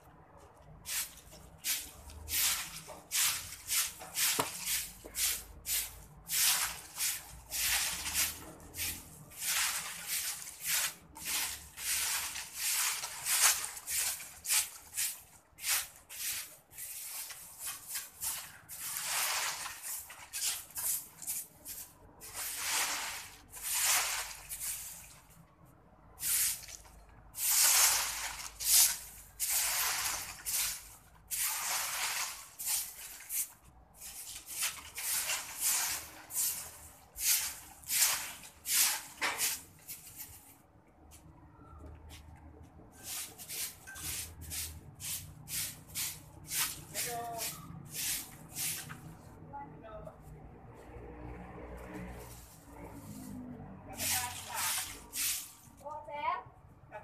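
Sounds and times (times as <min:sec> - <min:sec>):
scrubbing on concrete floor: 0:00.6 - 0:25.4, 0:26.2 - 0:41.3, 0:42.1 - 0:49.4, 0:50.2 - 0:55.9.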